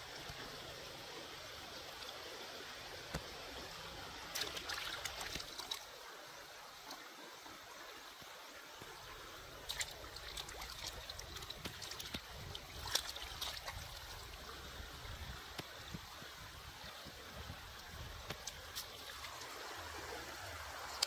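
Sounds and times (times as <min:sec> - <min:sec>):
stream trickling over rocks: 0:00.0 - 0:21.0.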